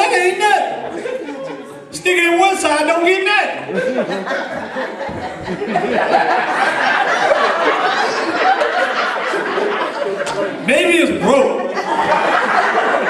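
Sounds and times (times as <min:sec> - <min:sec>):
audience laughing: 0:00.0 - 0:01.9, 0:03.6 - 0:13.0
people talking: 0:00.0 - 0:13.0.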